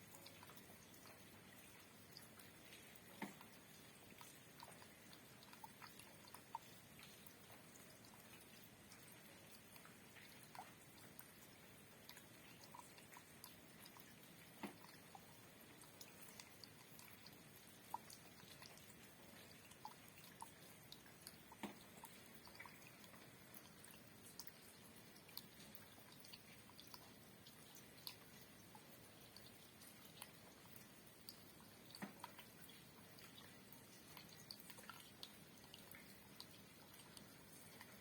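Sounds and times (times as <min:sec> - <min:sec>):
light rain hiss: 0:00.0 - 0:38.0.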